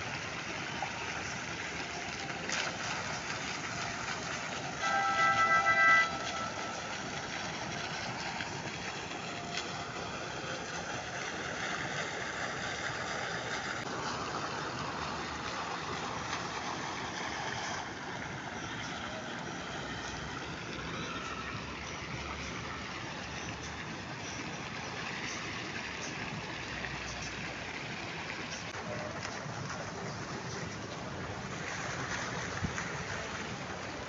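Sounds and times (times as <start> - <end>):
fountain water splashing: 0.0 - 34.0.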